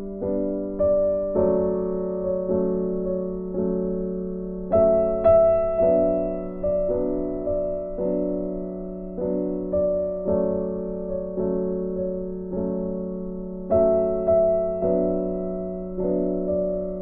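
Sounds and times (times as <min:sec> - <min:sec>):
piano notes ringing: 0:00.0 - 0:17.0.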